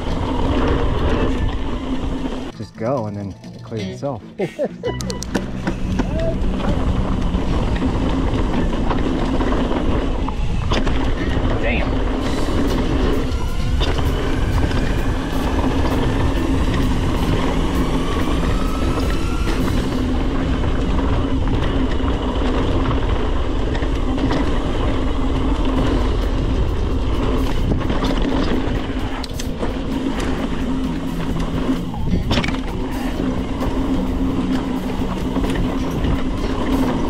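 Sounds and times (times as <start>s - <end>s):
tyre and wind noise: 0.0s - 4.1s, 5.3s - 37.0s
bike rattling and clacking: 0.0s - 4.2s, 5.2s - 37.0s.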